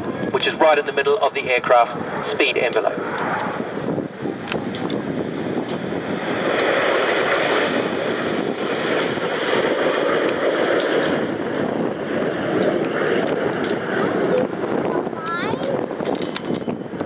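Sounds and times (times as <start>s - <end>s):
jets flying past overhead: 0.0s - 17.0s.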